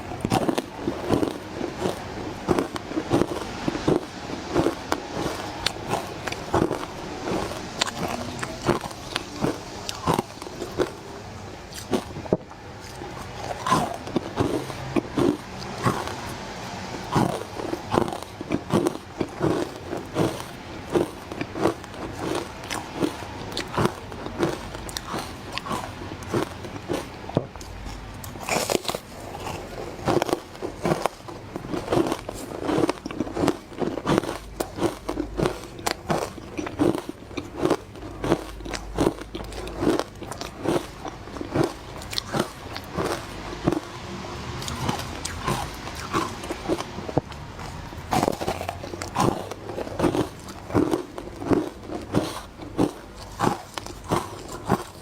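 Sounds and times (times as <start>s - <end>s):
crunching of frozen ice bites: 0.0s - 44.0s, 44.6s - 55.0s.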